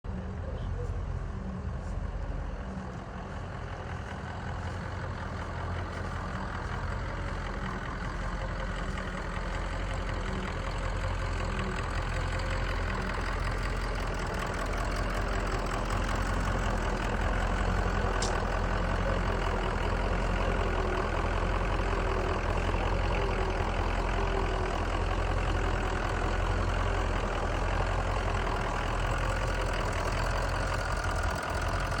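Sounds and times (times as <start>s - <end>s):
truck engine idling: 0.1s - 32.0s.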